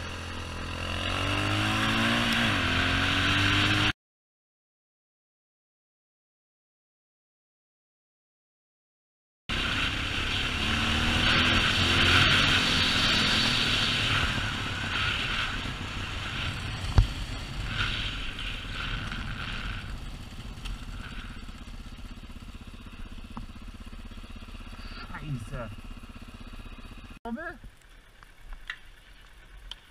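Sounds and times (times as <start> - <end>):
motorcycle engine running: 0.0 - 3.9, 9.5 - 29.9.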